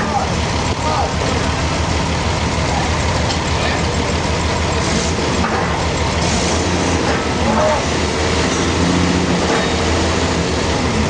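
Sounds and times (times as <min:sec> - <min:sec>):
heavy machinery engine droning: 0:00.0 - 0:11.0.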